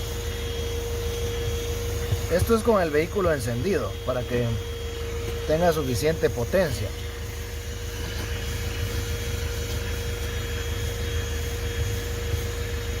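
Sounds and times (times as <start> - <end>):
handheld vacuum motor whining: 0.0 - 13.0.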